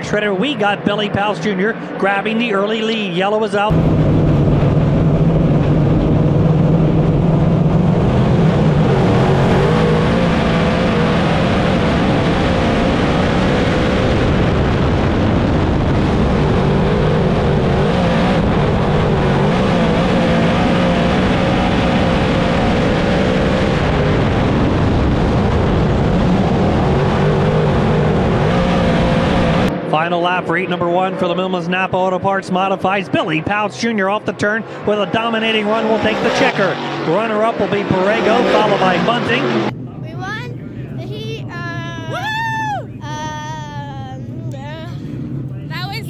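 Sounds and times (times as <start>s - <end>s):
race car engine running loud: 0.0s - 41.3s, 44.2s - 46.0s.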